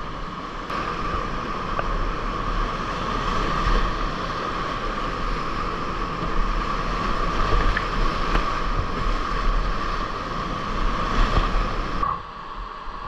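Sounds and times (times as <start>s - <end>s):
whitewater rushing and splashing: 0.0s - 12.8s.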